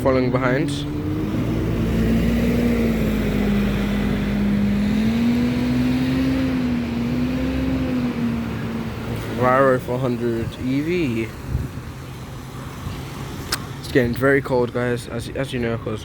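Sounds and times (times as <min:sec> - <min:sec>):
bus engine droning: 0:00.0 - 0:16.0.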